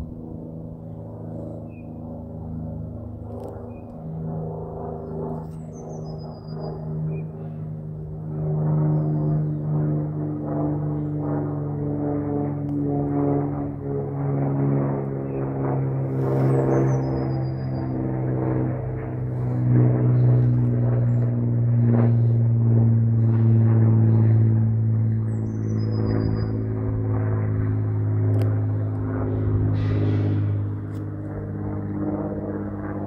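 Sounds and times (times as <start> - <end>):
propeller plane droning overhead: 0.0 - 33.0.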